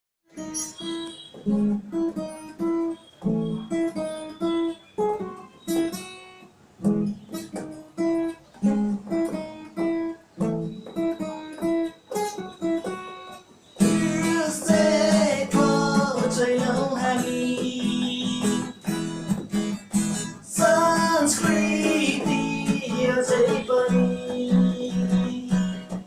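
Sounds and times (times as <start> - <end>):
acoustic guitar playing: 0.3 - 26.0.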